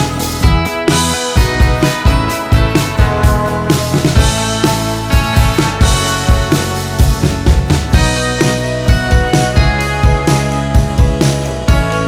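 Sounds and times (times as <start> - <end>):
upbeat song with guitar and drums: 0.0 - 12.0.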